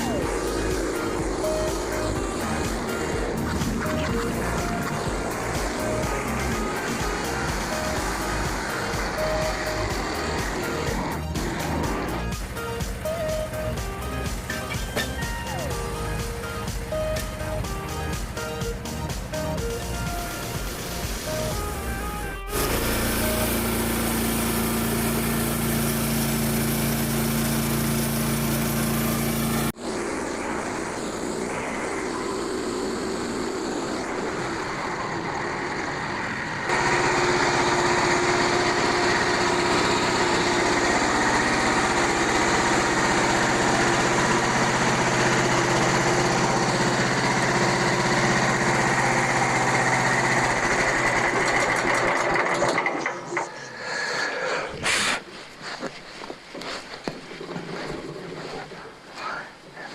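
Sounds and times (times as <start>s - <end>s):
small gasoline engine running: 0.0s - 53.7s.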